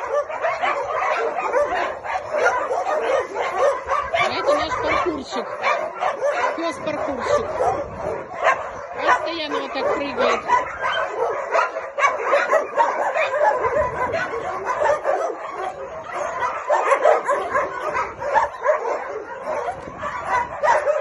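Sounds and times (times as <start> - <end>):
many dogs barking: 0.0 - 21.0.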